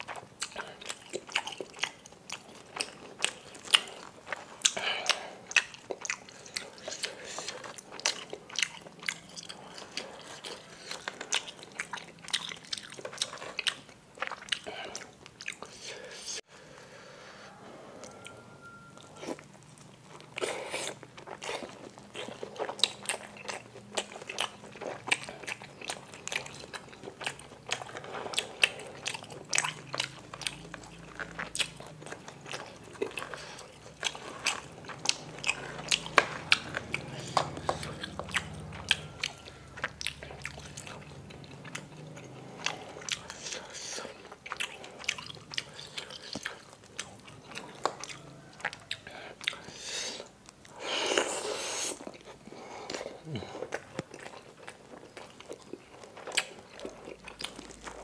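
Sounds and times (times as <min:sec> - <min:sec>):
wet chewing with clicks and smacks: 0:00.0 - 0:15.9, 0:18.0 - 0:58.0.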